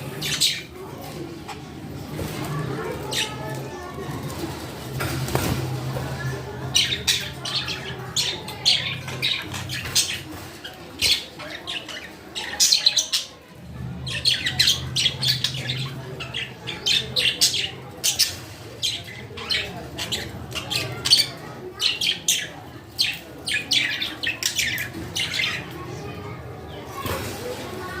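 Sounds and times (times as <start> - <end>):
budgerigars chirping and squawking: 0.0 - 3.8, 6.6 - 26.1.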